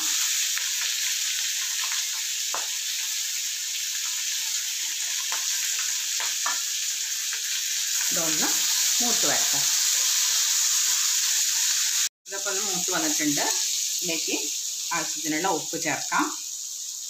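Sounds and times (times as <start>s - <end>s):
oil sizzling in a pan: 0.0s - 17.0s.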